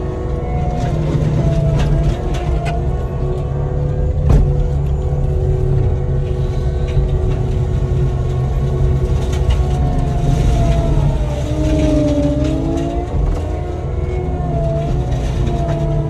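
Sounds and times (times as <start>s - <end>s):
diesel engine deep drone: 0.0s - 16.0s.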